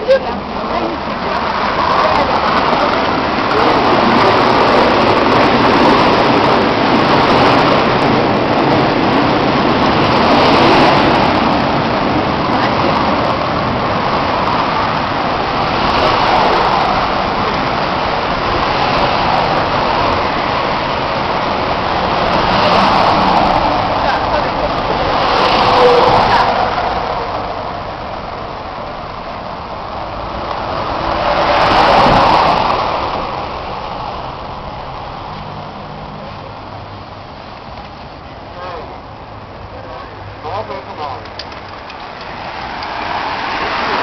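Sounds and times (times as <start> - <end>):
road traffic roar: 0.0 - 44.0.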